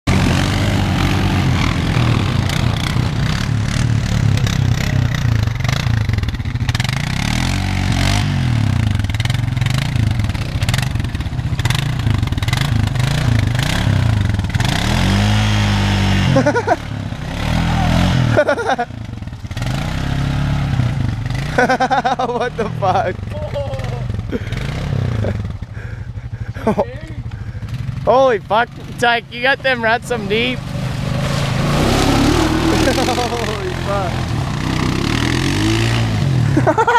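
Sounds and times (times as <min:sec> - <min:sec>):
atv engine revving: 0:00.0 - 0:36.9.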